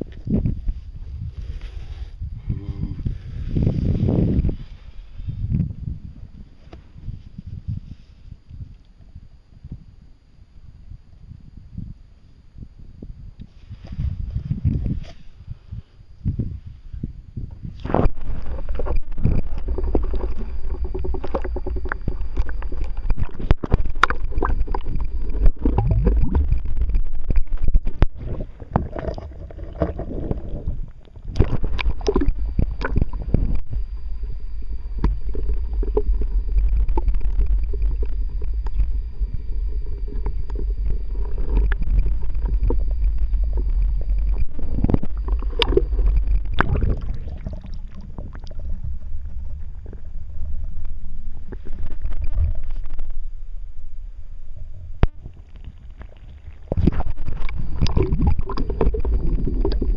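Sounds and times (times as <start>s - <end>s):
faint high whine: 0.0s - 59.9s
underwater water rumble: 0.0s - 59.9s.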